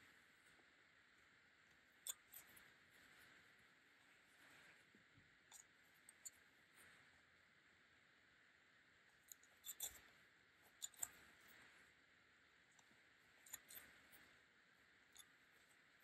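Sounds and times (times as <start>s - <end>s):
yarn needle clicking and rustling: 0.0s - 7.4s, 8.9s - 16.0s.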